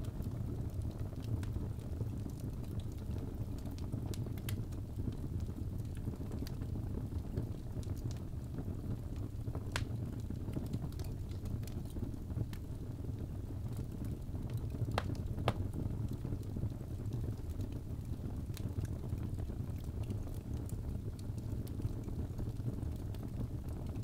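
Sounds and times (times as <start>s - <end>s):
fire burning in fireplace: 0.0s - 24.0s
fire crackles and pops: 0.0s - 24.0s.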